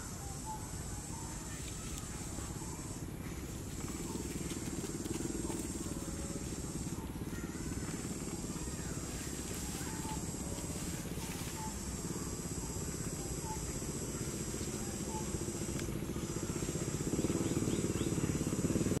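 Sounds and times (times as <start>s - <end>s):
faint high hiss: 0.0s - 18.6s
small engine running: 1.0s - 19.0s.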